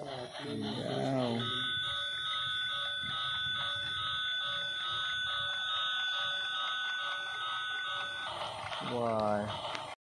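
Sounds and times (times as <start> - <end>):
electronic bell-like ringing: 0.0 - 10.0
toy train motor and wheels rattling: 0.0 - 10.0.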